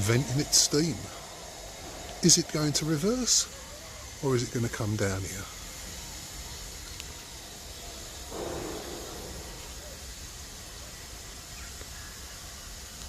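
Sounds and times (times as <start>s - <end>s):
steam locomotive venting steam: 0.0s - 13.0s.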